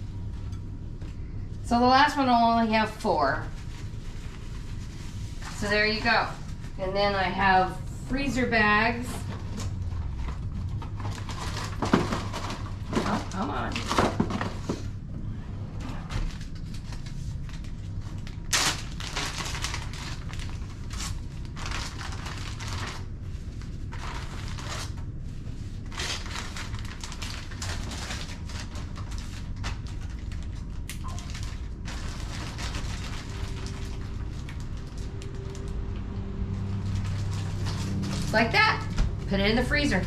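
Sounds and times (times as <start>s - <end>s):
steady low hum: 0.0s - 40.0s
plastic bag rustling and crinkling: 2.8s - 7.2s, 8.3s - 14.9s, 16.1s - 40.0s.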